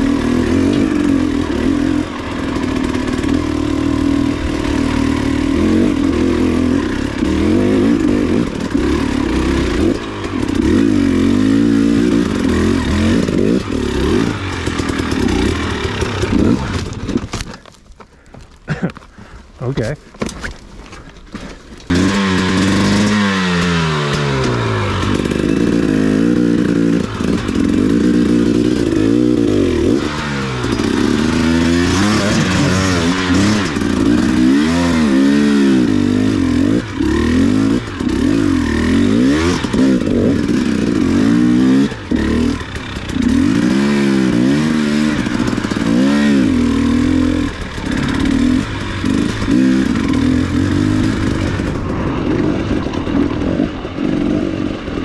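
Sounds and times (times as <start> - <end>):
two-stroke motorbike engine revving: 0.0 - 17.6, 21.8 - 55.0.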